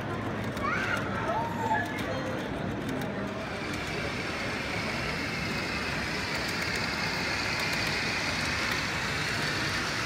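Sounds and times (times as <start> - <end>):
model train running on track: 0.0 - 10.0.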